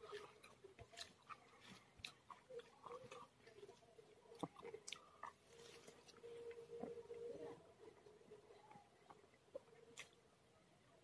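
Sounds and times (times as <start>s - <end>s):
man chewing food: 0.0s - 10.2s.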